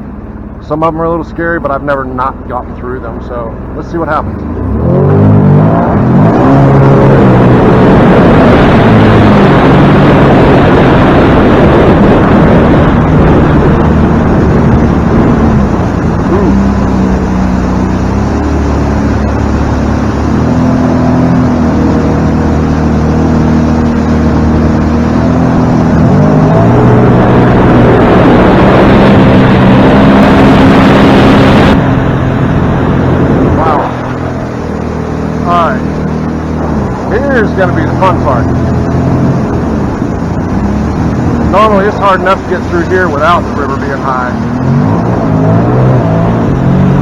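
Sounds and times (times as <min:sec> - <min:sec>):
motorboat engine: 0:00.0 - 0:47.0
wind and water rushing: 0:00.0 - 0:47.0.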